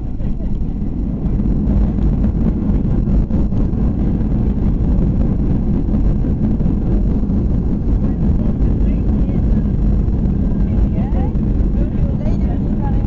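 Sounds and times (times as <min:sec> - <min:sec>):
airflow: 0:00.0 - 0:13.0
airplane cabin engine rumble: 0:00.0 - 0:13.0.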